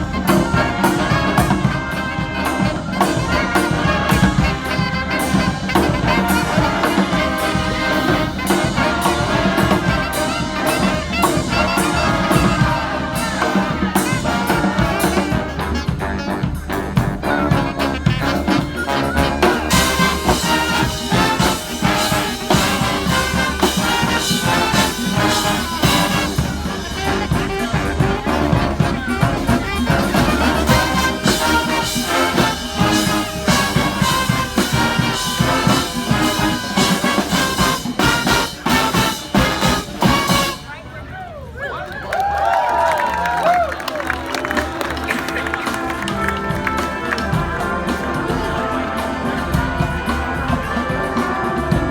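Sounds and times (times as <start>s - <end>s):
trumpets and trombones: 0.0s - 41.5s, 42.5s - 51.9s
brass band playing: 0.0s - 41.6s, 42.5s - 51.9s.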